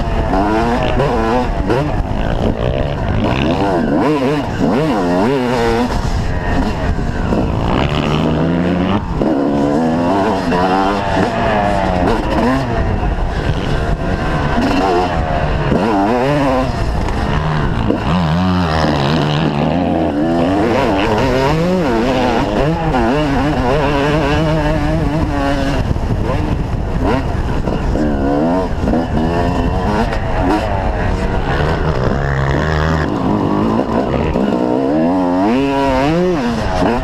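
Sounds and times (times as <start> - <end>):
motocross bike engines revving: 0.0 - 37.0.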